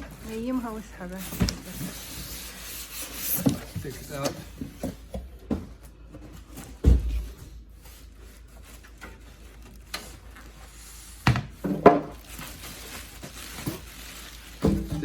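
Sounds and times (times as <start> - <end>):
cardboard rubbing and rustling: 0.0 - 5.1, 6.2 - 15.0.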